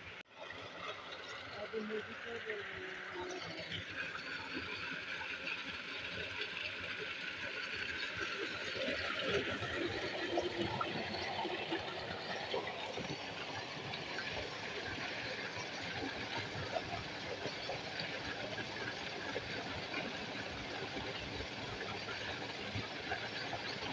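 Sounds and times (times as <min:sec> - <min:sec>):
water gushing from pipe into tank: 0:00.1 - 0:23.9.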